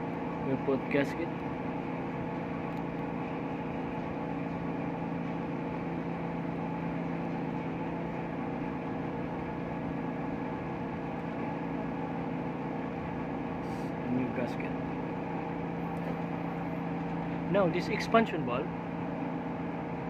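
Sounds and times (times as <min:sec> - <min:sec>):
machinery droning: 0:00.0 - 0:20.0.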